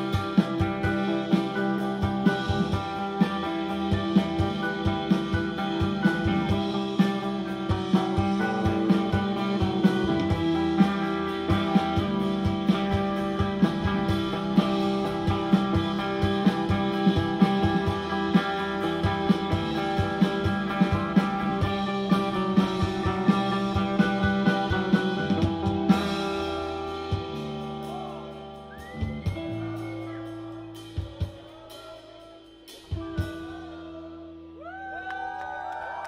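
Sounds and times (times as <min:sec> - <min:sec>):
electric guitars sustaining chords: 0:00.0 - 0:31.0
drum kit steady beat: 0:00.0 - 0:34.5.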